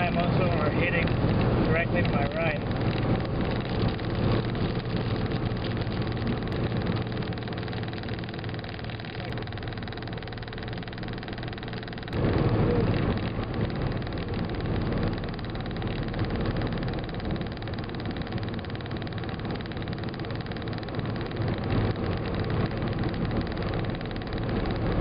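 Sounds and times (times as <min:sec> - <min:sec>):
engine and tyre drone: 0:00.0 - 0:25.0.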